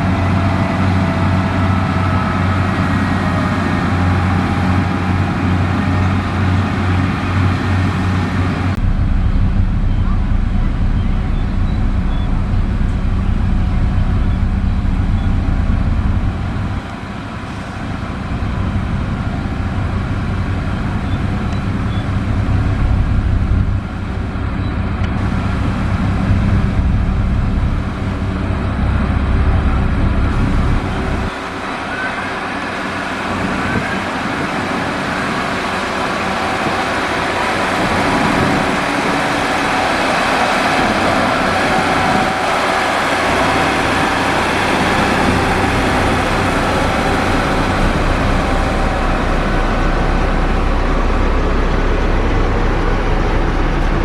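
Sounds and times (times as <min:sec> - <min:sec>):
diesel engine rumble: 0:00.0 - 0:54.0.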